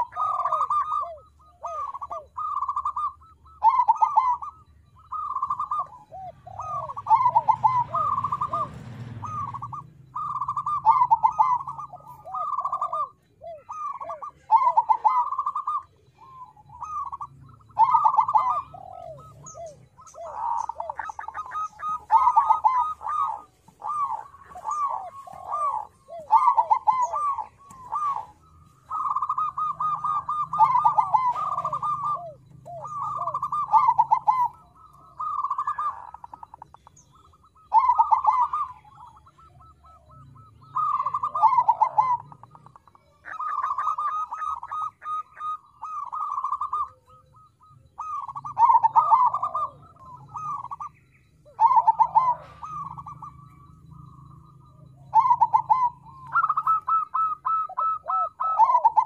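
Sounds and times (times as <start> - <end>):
dove cooing song: 0.0 - 59.0.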